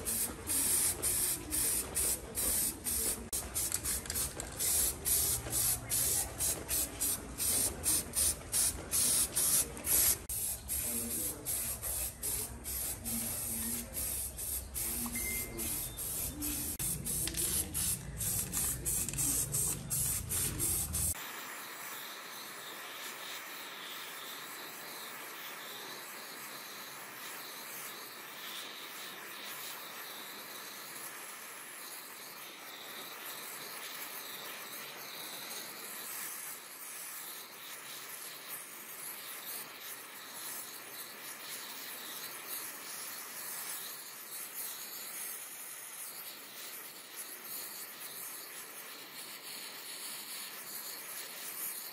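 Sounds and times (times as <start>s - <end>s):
gas torch flame hissing: 0.0s - 51.9s
spray can hissing bursts: 0.0s - 51.9s.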